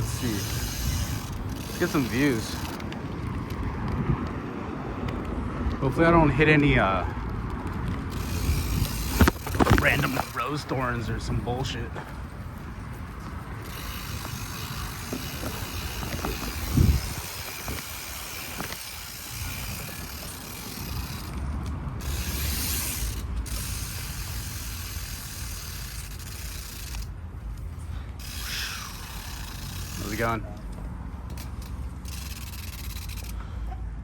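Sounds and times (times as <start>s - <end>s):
bike freewheel ratcheting: 0.0s - 4.4s, 6.9s - 11.8s, 13.6s - 27.6s, 28.2s - 33.6s
rolling rumble: 0.0s - 28.3s.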